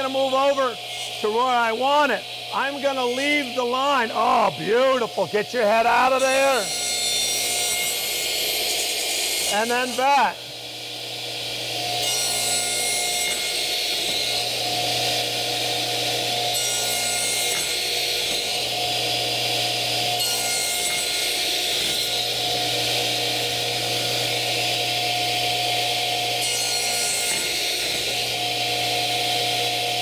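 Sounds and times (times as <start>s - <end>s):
saw blade cutting plywood: 0.0s - 30.0s
saw motor hum: 0.0s - 30.0s.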